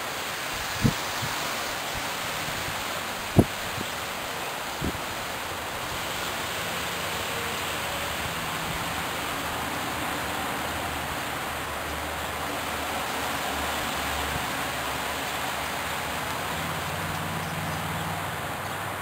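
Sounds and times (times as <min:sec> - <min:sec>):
running water hiss: 0:00.0 - 0:19.0.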